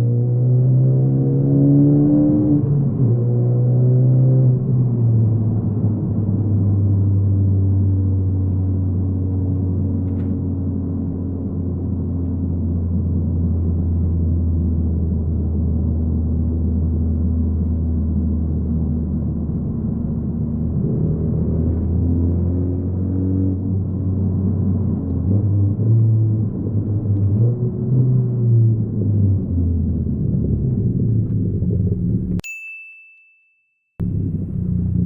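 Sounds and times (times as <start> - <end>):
car engine droning: 0.0 - 32.4, 34.0 - 35.0.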